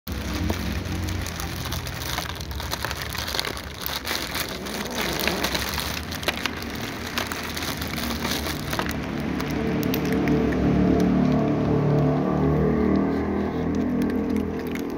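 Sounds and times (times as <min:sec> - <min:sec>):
cat crunching dry kibble: 0:00.1 - 0:14.9
plastic bag crinkling: 0:00.1 - 0:14.9.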